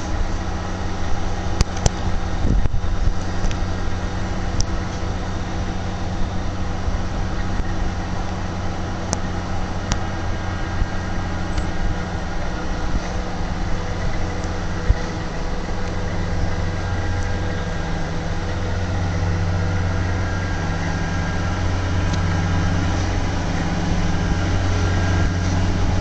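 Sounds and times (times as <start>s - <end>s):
engine running with low hum: 0.0s - 26.0s.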